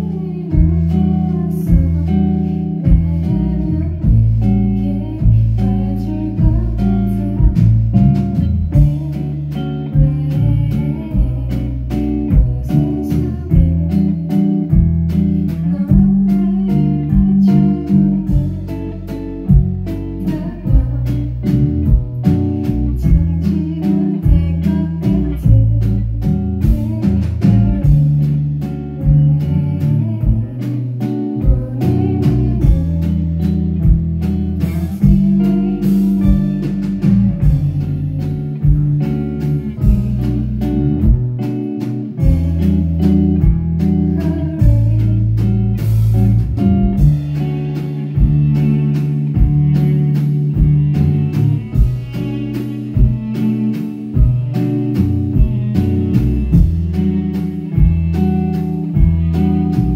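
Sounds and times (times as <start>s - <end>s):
woman singing: 0.0s - 54.4s
bass notes: 0.0s - 59.9s
electric guitar: 0.0s - 59.9s
steady drum beat: 0.0s - 59.9s.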